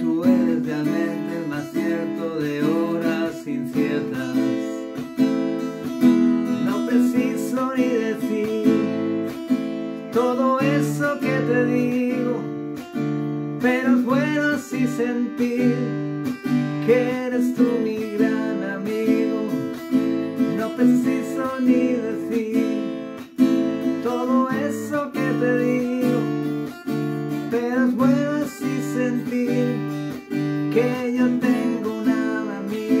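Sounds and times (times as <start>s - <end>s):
acoustic guitar strumming chords: 0.0s - 33.0s
gliding guitar melody: 0.0s - 33.0s.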